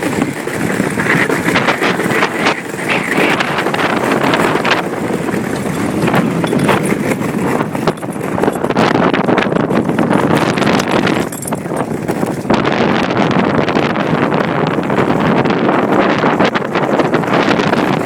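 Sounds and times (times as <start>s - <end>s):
ice boat rushing over ice: 0.0s - 18.0s
wind buffeting microphone: 0.0s - 18.0s.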